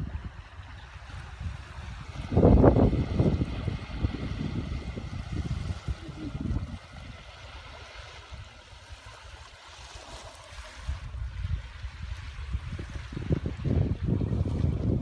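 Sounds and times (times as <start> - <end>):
wind buffeting microphone: 0.0 - 9.4, 10.6 - 15.0
sea water washing at shore: 0.0 - 15.0.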